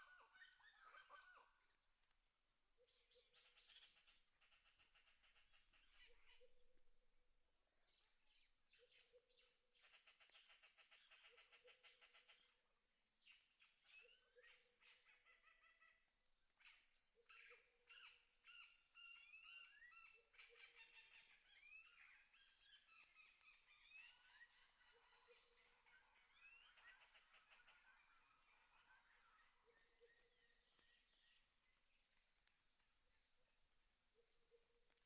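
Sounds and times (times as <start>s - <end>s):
birds chirping and trilling: 0.0s - 1.8s, 2.9s - 7.1s, 7.8s - 35.0s.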